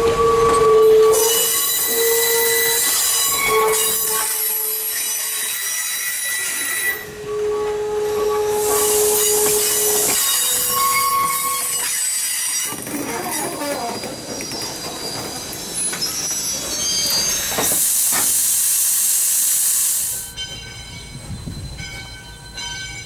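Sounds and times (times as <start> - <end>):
train wheels squealing: 0.0 - 23.0.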